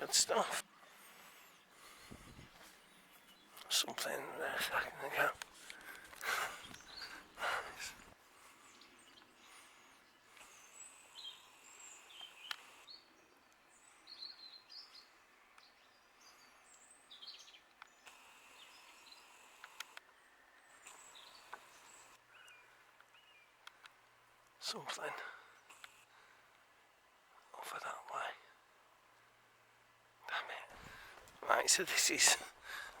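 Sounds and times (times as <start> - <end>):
background hiss: 0.0 - 33.0
small birds chirping: 0.0 - 33.0.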